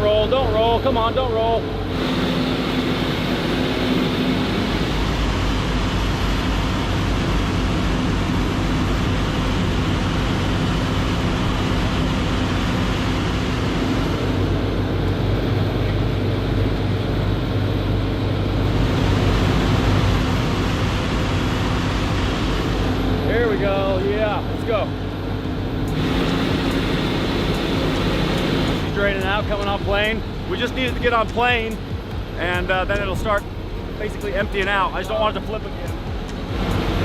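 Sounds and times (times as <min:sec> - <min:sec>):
boat engines droning under load: 0:00.0 - 0:37.0.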